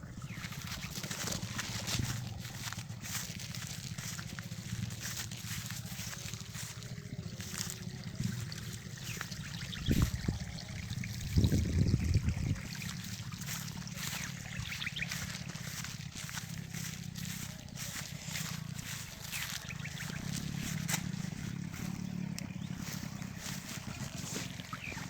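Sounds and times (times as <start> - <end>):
water trickling in a ditch: 0.0 - 25.0.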